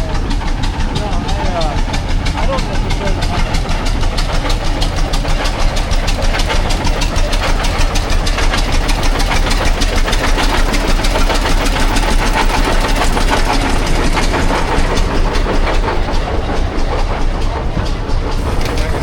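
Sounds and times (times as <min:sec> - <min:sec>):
antique engine knocking: 0:00.0 - 0:19.0.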